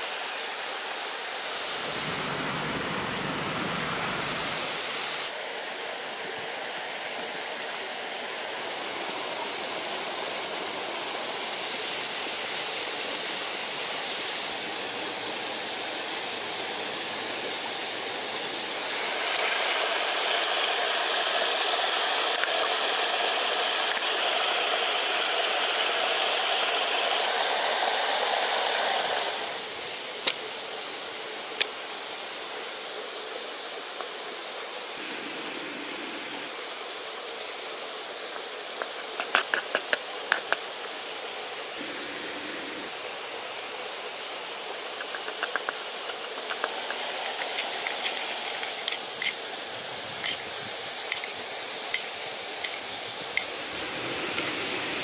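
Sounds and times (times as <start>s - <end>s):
stream running over rocks: 4.0s - 55.0s.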